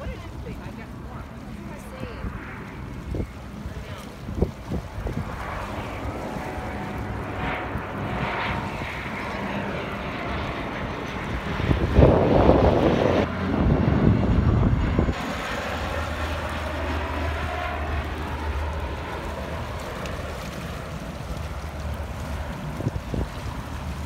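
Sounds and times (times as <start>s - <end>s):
turboprop airliner engines droning: 0.0s - 24.0s
wind buffeting microphone: 0.0s - 24.0s.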